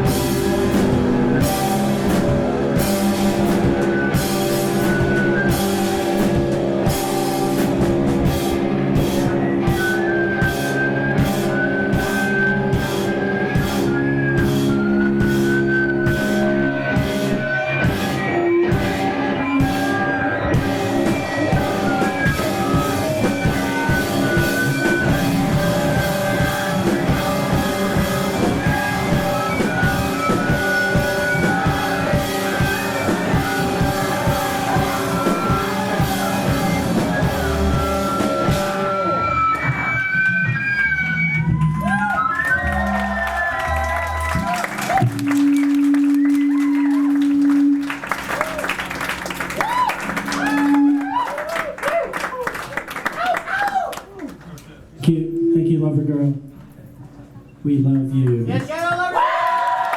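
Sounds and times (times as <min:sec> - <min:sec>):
electric guitar chords: 0:00.0 - 0:51.3
drum kit beat: 0:00.0 - 0:52.1.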